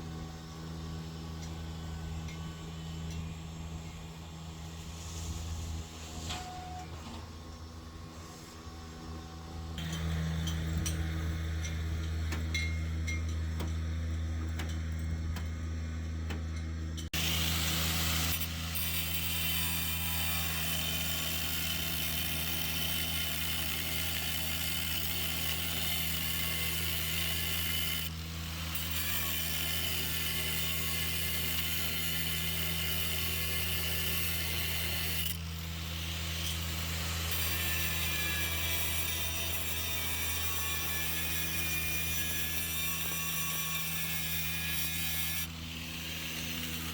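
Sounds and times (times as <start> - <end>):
workshop tool noises: 1.3 - 46.9.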